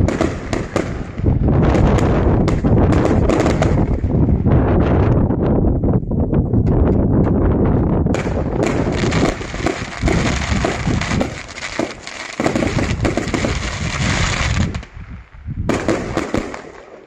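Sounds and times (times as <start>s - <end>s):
fireworks crackling: 0.0s - 5.3s, 6.6s - 17.0s
fireworks bangs: 0.0s - 5.4s, 6.5s - 17.0s.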